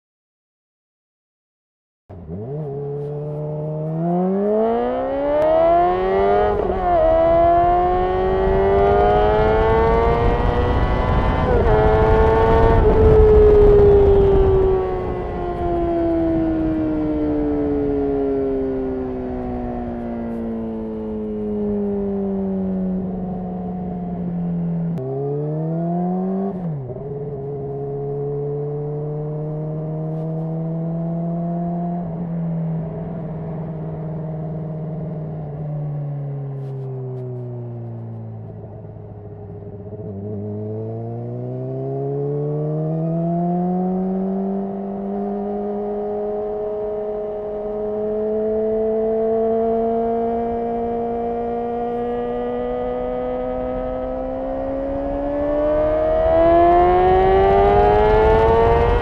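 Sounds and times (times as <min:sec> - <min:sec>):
motorcycle engine revving: 0:02.1 - 0:59.0.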